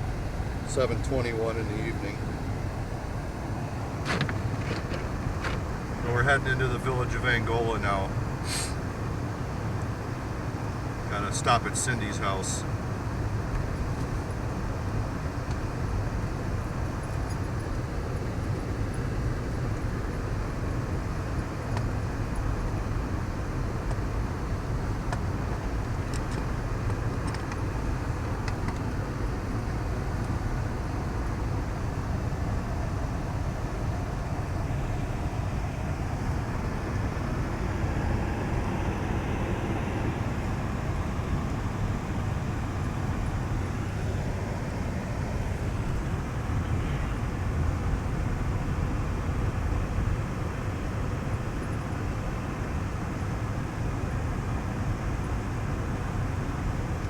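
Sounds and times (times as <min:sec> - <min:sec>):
vehicle engine and tyre rumble: 0:00.0 - 0:57.0.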